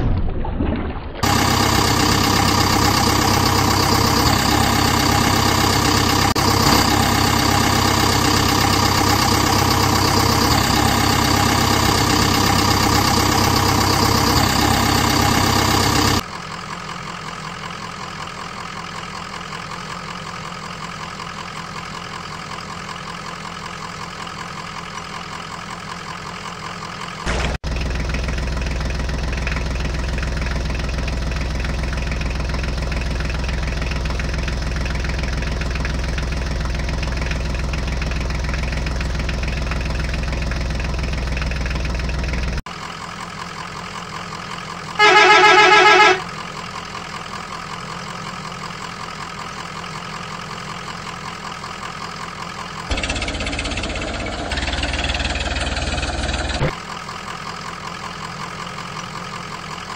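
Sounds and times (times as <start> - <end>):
engine idling: 1.2 - 59.9.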